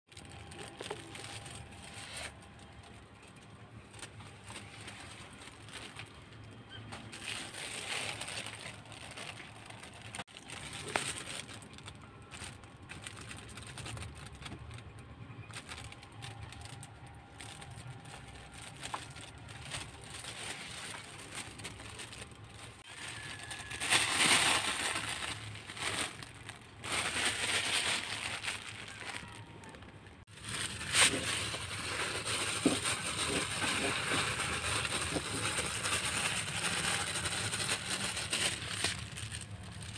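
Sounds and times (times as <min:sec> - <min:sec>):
plastic bag rustling: 0:00.1 - 0:39.9.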